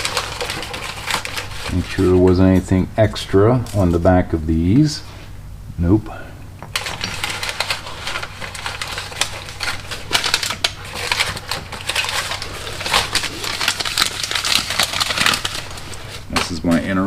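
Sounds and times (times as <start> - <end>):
packaging crinkling: 0.0 - 4.1, 6.6 - 17.0.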